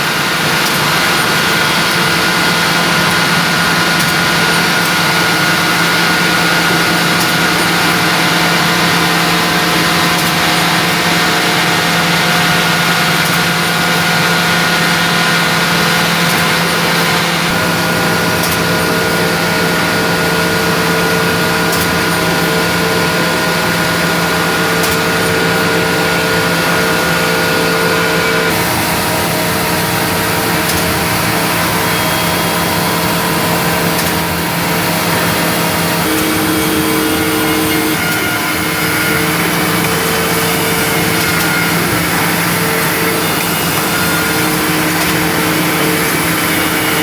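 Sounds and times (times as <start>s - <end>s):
held machine tones: 0.0s - 47.0s
machine motor hum: 0.0s - 47.0s
noisy background: 0.0s - 47.0s.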